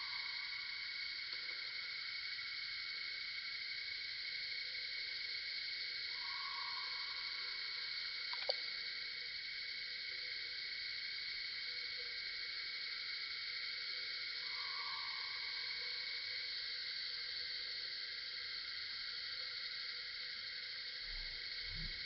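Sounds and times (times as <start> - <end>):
insect chorus drone: 0.0 - 22.0
lower insect call: 0.0 - 22.0.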